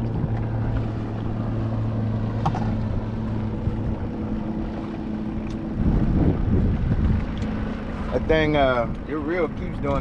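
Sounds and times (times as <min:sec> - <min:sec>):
boat motor humming: 0:00.0 - 0:10.0
wind buffeting microphone: 0:00.0 - 0:10.0.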